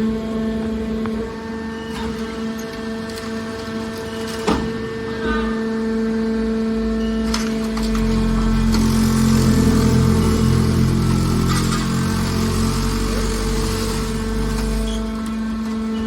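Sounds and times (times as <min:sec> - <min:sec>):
scrap metal baler humming: 0:00.0 - 0:16.0.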